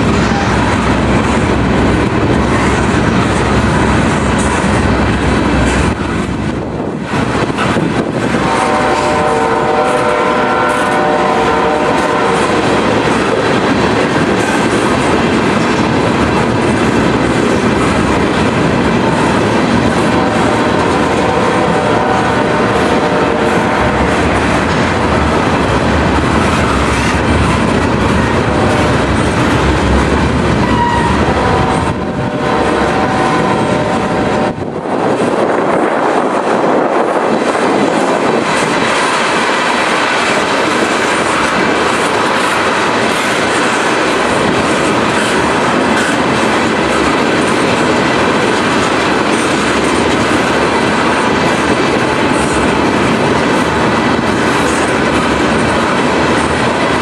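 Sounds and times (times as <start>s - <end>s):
freight train rumbling past: 0.0s - 57.0s
wheels clacking over rail joints: 7.0s - 33.9s, 37.3s - 57.0s.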